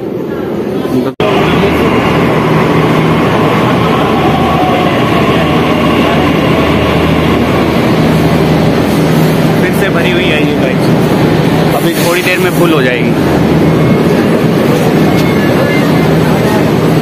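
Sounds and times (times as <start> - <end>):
train wheels rumbling: 1.2 - 17.0.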